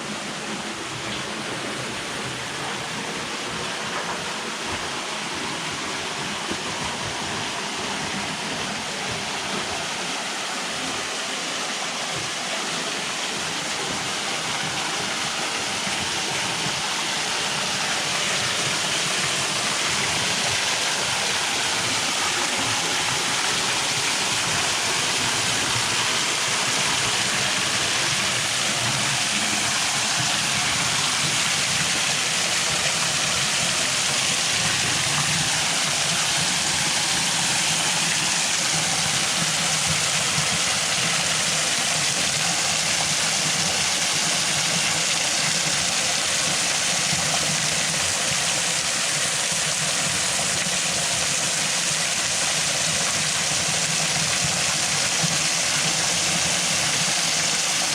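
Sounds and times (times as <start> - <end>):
waterfall roaring: 0.0 - 57.9.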